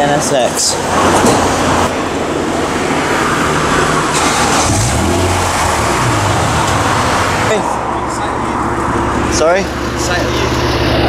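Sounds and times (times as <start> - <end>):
car engine idling: 0.2 - 11.0.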